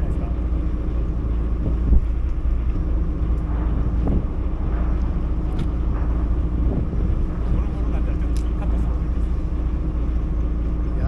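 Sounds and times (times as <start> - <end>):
boat engine humming: 0.0 - 11.0
wind buffeting microphone: 0.0 - 11.0.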